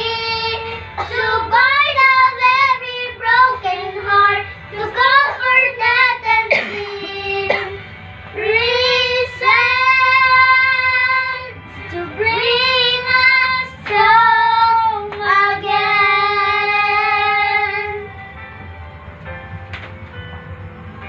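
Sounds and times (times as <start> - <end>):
children singing worship song: 0.0 - 18.2.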